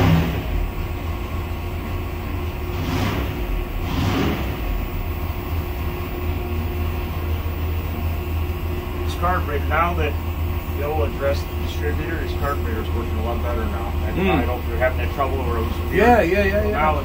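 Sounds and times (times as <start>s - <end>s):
race engine running: 0.0s - 17.0s.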